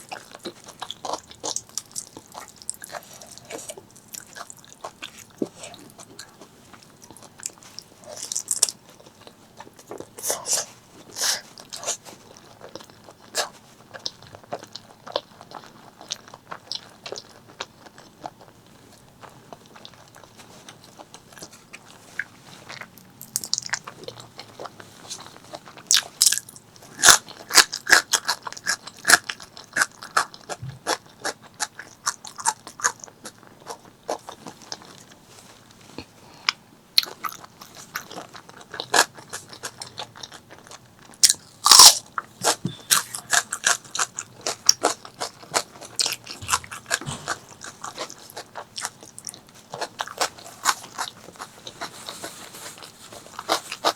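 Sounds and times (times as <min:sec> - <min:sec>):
person chewing food: 0:00.0 - 0:53.9.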